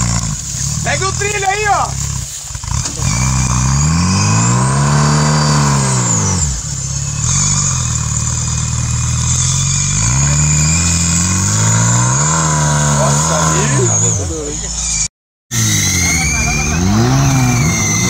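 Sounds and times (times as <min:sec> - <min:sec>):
buggy engine revving: 0:00.0 - 0:18.0.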